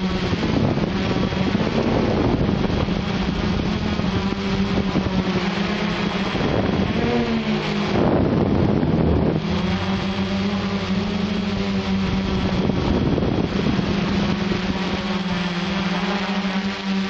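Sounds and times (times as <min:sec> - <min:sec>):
drone propellers humming: 0:00.0 - 0:17.0
wind noise on microphone: 0:00.0 - 0:17.0.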